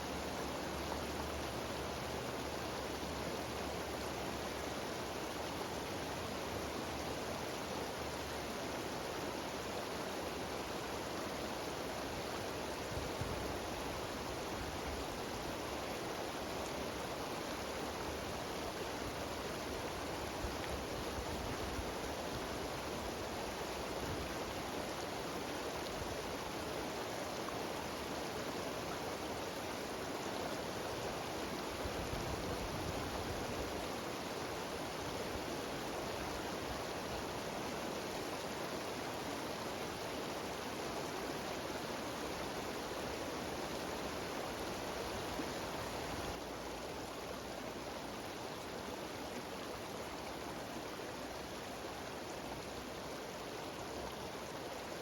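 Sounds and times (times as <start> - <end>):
stream rushing down waterfall: 0.0 - 55.0.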